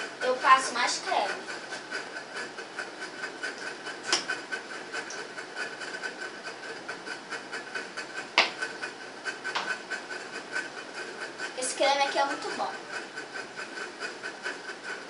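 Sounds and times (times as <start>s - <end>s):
steady pulsing hiss: 0.0s - 15.0s.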